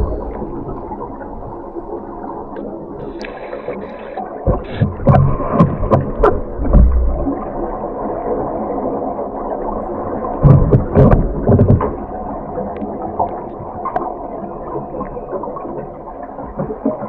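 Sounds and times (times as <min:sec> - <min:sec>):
underwater bubbles gurgling: 0:00.0 - 0:17.0.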